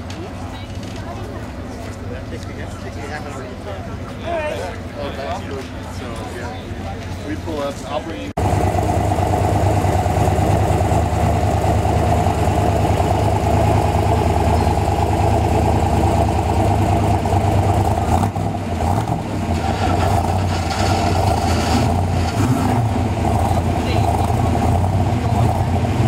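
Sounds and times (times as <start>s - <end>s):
car engine idling deep rumble: 0.0s - 26.0s.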